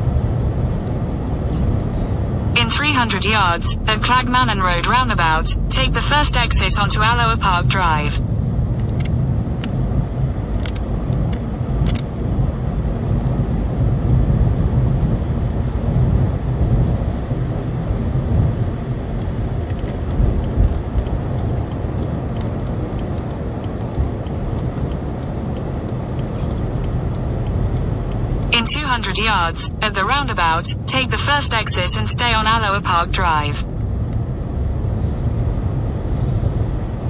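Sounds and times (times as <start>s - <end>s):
car cabin road and engine rumble: 0.0s - 37.0s.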